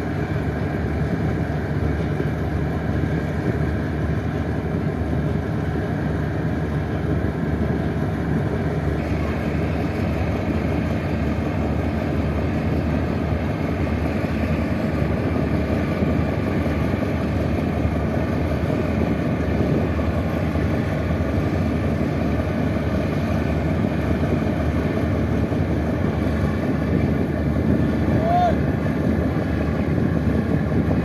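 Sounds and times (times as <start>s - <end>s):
boat engine droning: 0.0s - 31.0s
water wash: 0.0s - 31.0s.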